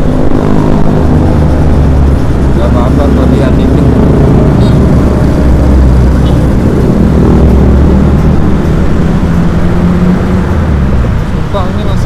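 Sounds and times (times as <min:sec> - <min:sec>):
faint engine hum: 0:00.0 - 0:12.0
vehicle engine and road rumble: 0:00.0 - 0:12.0.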